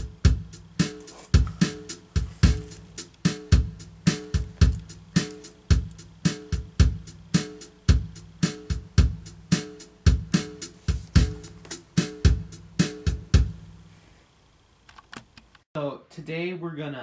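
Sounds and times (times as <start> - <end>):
steady drum beat: 0.0 - 13.8.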